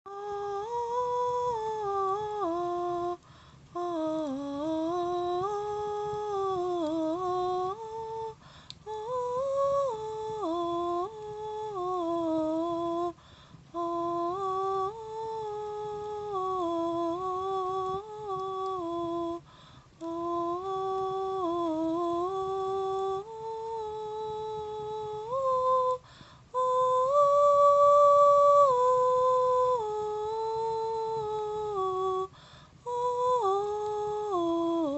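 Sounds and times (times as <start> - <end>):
person humming wordlessly: 0.1 - 34.9.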